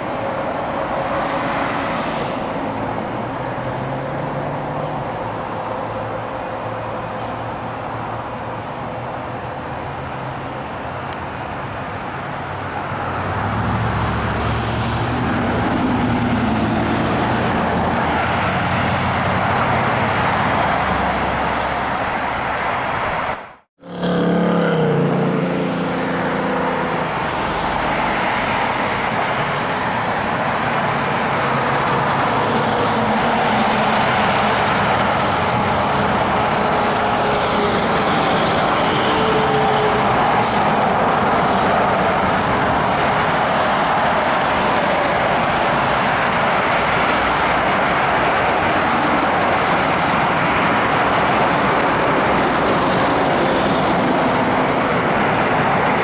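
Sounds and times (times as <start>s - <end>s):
cars and trucks passing: 0.0s - 56.0s.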